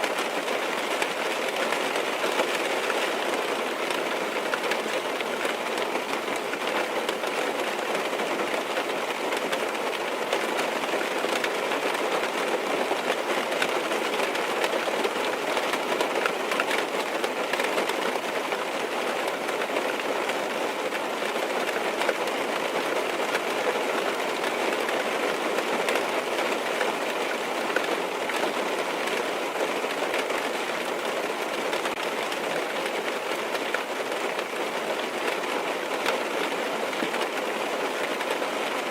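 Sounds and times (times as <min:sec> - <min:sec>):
rain pattering on car roof: 0:00.0 - 0:38.9.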